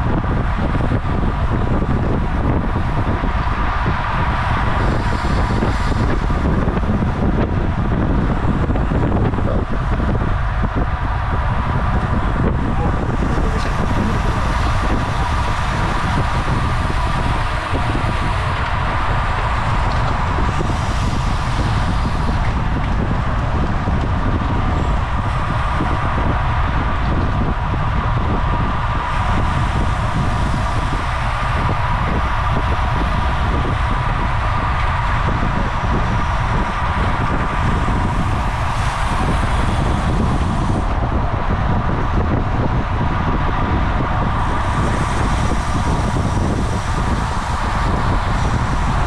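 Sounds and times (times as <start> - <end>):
constant whirring hum: 0.0 - 49.0
wind rushing on microphone: 0.0 - 49.0.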